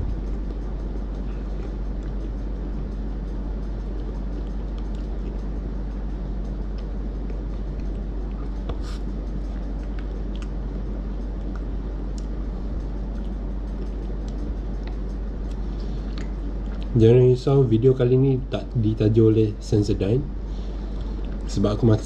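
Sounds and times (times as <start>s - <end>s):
room hum and hiss: 0.0s - 22.0s.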